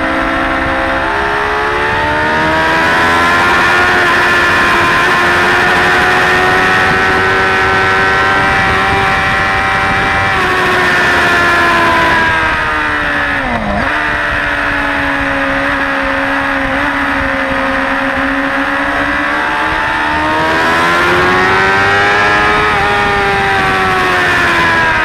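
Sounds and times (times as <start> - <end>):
gear change: 0.0 - 25.0
motorcycle engine: 0.0 - 25.0.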